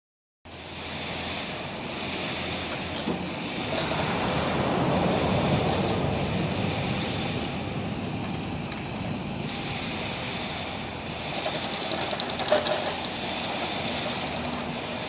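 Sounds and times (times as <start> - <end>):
pipe grooving machine whining: 0.5 - 15.0.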